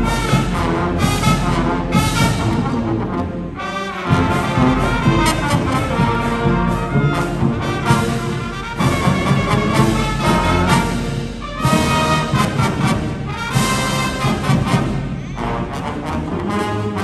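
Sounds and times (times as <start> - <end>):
brass blaring chords: 0.0 - 17.0
marching band playing: 0.0 - 17.0.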